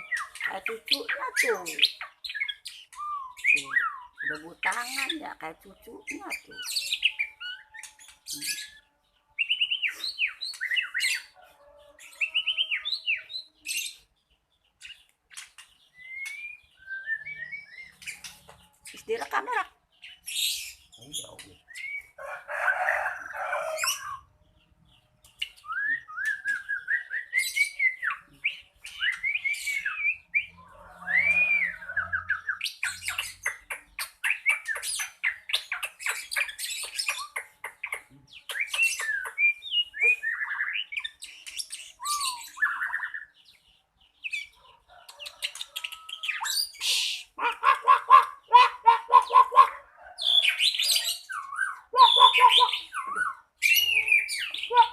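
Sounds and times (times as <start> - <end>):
songbird whistling and trilling: 0.0 - 5.2, 6.1 - 11.4, 12.0 - 14.1, 14.8 - 19.4, 20.0 - 22.2, 25.3 - 43.6, 45.3 - 47.6, 50.3 - 54.9.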